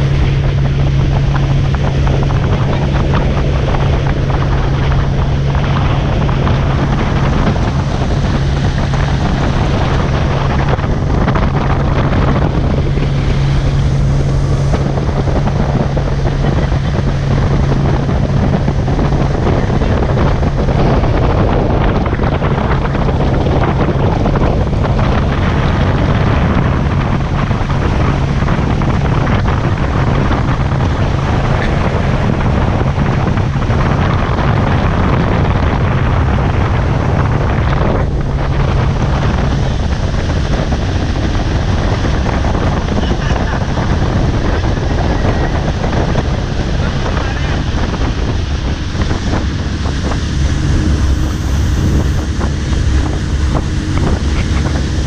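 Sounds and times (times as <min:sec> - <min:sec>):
outboard motor droning: 0:00.0 - 0:55.0
wind buffeting microphone: 0:00.0 - 0:55.0.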